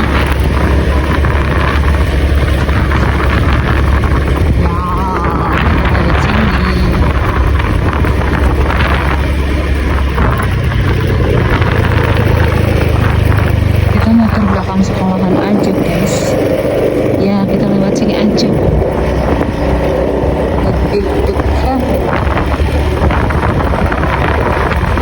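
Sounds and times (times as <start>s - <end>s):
vehicle engine running: 0.0s - 25.0s
wind buffeting microphone: 0.0s - 25.0s.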